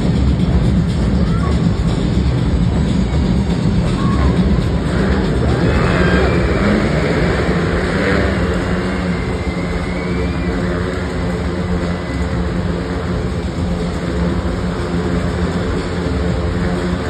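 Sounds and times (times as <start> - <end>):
motorcycle engines droning: 0.0 - 17.0.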